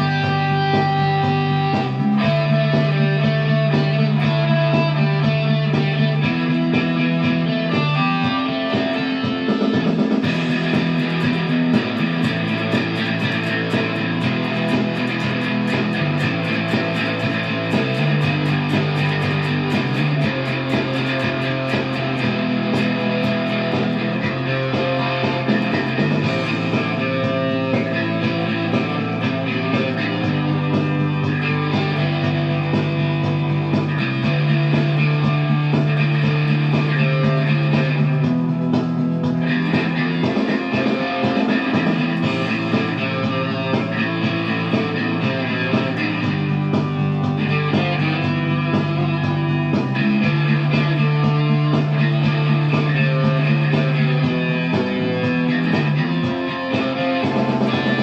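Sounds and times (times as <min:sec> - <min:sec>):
electric guitar: 0:00.0 - 0:58.0
rock backing track: 0:00.0 - 0:58.0.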